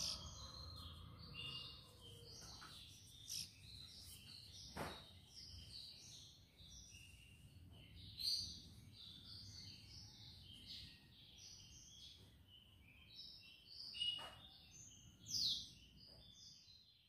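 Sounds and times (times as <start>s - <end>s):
songbirds twittering: 0.0s - 17.0s.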